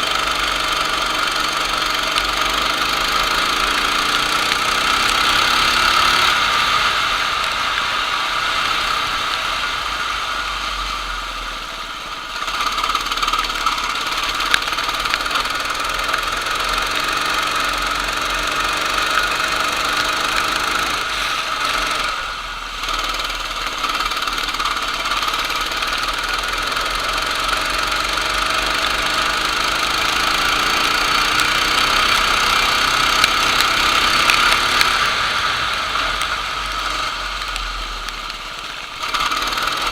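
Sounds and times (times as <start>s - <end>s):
kart engine at high revs: 0.0s - 39.9s.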